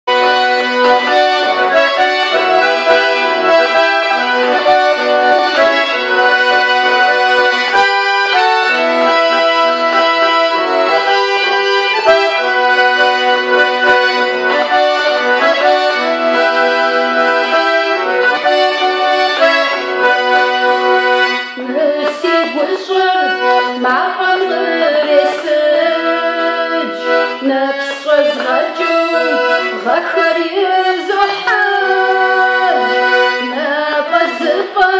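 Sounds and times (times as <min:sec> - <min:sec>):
piano accordion melody: 0:00.0 - 0:34.9.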